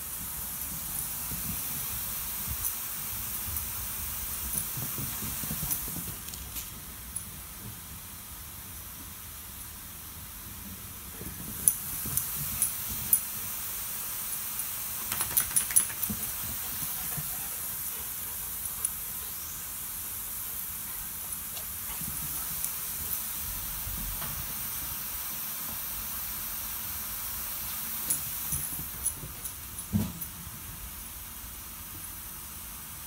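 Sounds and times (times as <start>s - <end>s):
sprinklers hissing: 0.0s - 7.0s, 11.1s - 32.9s.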